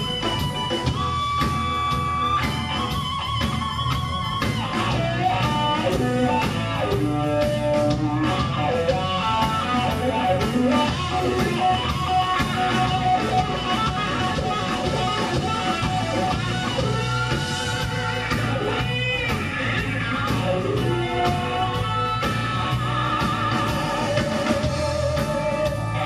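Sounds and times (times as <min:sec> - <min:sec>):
bass guitar: 0:00.0 - 0:26.0
drum kit: 0:00.0 - 0:26.0
electric guitar bending notes: 0:00.0 - 0:26.0.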